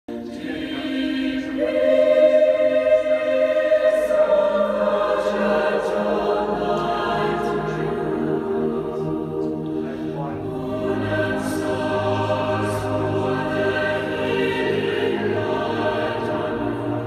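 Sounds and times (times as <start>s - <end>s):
choir singing held chords: 0.1s - 17.0s.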